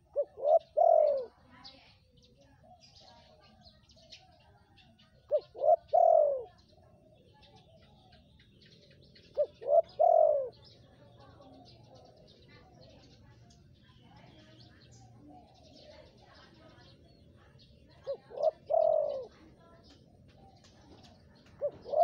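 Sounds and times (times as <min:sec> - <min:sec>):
dove cooing: 0:00.0 - 0:01.5, 0:02.5 - 0:08.2, 0:09.0 - 0:13.1, 0:15.3 - 0:22.0
small birds chirping: 0:00.0 - 0:22.0.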